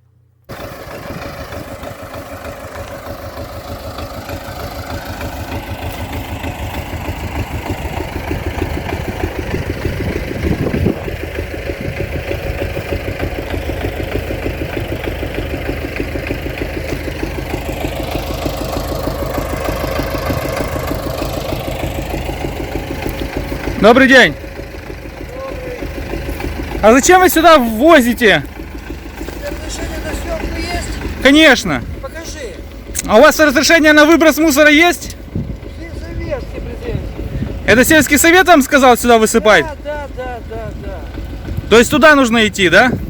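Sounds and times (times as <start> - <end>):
tractor engine idling: 0.0 - 43.0.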